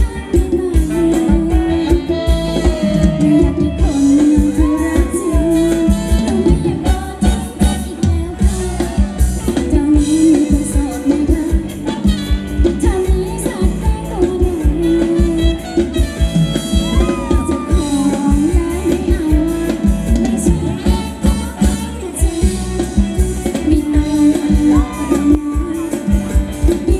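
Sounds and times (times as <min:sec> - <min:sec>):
live band playing dance music: 0:00.0 - 0:26.9
person singing melody: 0:00.0 - 0:26.9
steady drum beat: 0:00.0 - 0:26.9.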